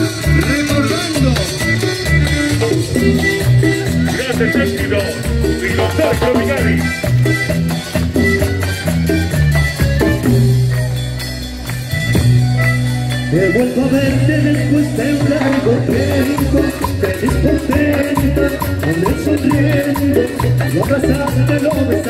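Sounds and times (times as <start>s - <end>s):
accordion melody: 0.0s - 22.0s
live dance band playing: 0.0s - 22.0s.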